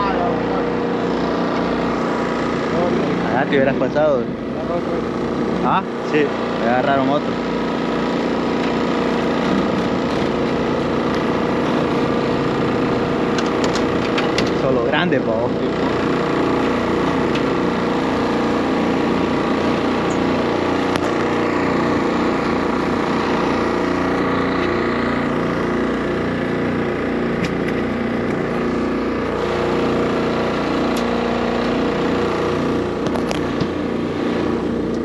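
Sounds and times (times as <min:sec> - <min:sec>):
small boat engine humming: 0:00.0 - 0:35.0.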